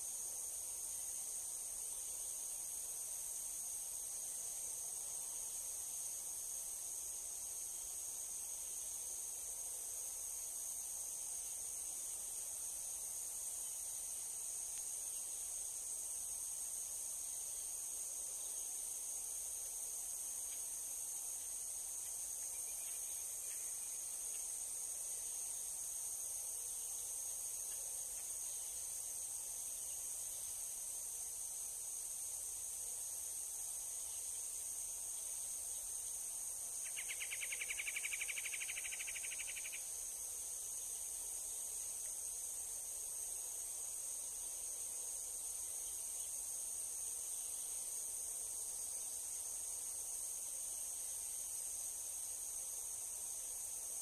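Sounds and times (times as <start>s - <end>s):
insect chorus: 0.0s - 54.0s
rapid insect trill: 0.0s - 54.0s.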